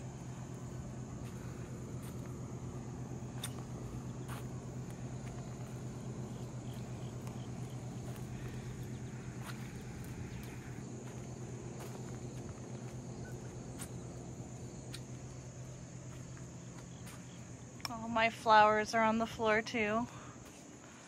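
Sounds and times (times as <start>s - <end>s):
insects chirring: 0.0s - 21.0s
low steady hum: 0.0s - 21.0s.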